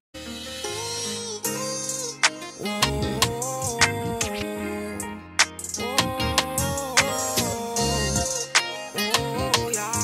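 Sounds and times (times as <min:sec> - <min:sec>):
beat with melodic notes: 0:00.2 - 0:10.0.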